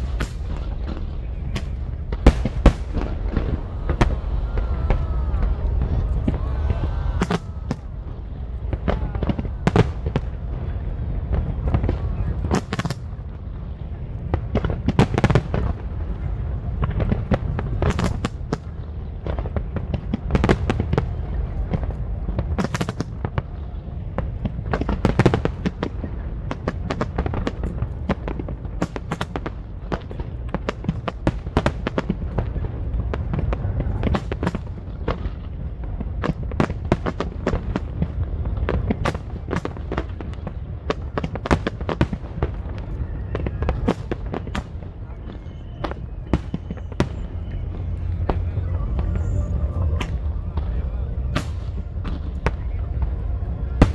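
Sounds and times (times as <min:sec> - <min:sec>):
continuous low rumble: 0:00.0 - 0:53.9
fireworks bangs and crackles: 0:00.0 - 0:53.9.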